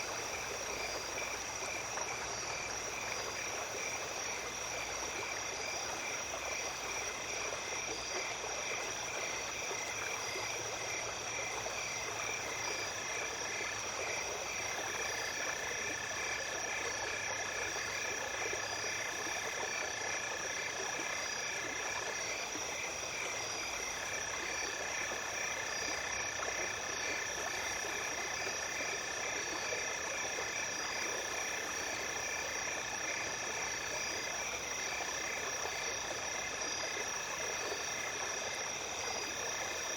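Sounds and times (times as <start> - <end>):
insects trilling: 0.0 - 39.9
rapidly pulsing insect chirp: 0.0 - 39.9
stream running: 0.0 - 39.9.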